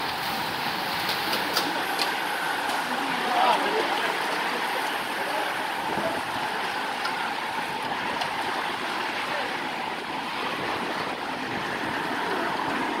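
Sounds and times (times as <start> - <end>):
bicycles passing on asphalt: 0.0 - 13.0.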